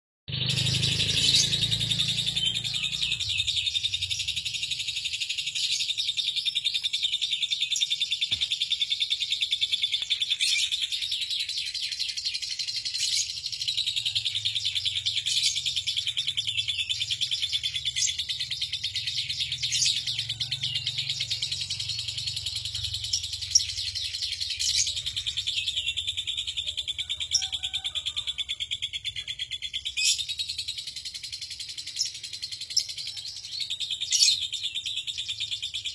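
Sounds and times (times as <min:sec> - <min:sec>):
lovebird rapid high chattering: 0:00.3 - 0:35.9
sharp bird chirps: 0:00.3 - 0:35.9.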